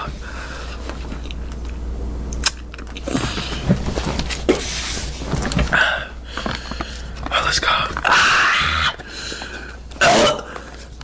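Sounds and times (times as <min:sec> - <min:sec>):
low microphone hum: 0:00.0 - 0:11.0.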